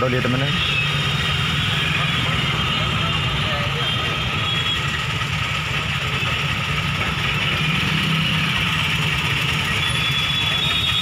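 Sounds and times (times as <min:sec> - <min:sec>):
idling traffic engine rumble: 0:00.0 - 0:11.0.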